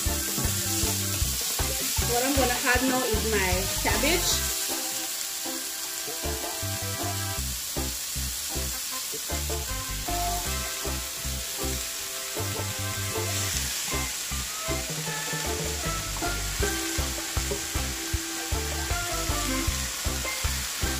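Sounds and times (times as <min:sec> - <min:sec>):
background music with a beat: 0:00.0 - 0:20.9
vegetables sizzling in a skillet: 0:00.0 - 0:20.9.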